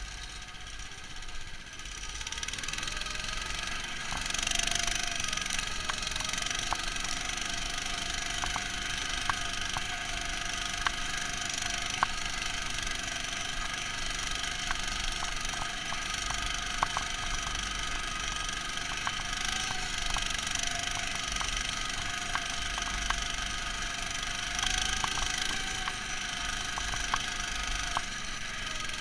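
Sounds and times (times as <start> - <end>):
muffled engine running: 0.0 - 29.0
sharp clicks: 4.0 - 28.5.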